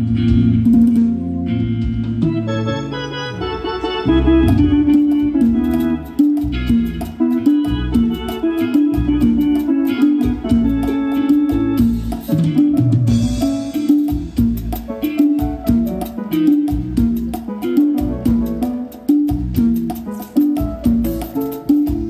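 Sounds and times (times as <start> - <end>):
drum kit beat: 0.0 - 22.0
live band playing: 0.0 - 22.0.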